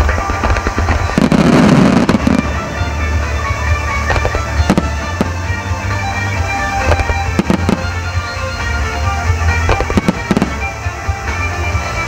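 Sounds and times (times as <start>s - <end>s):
fireworks bursting: 0.0s - 12.0s
music with deep bass: 0.0s - 12.0s.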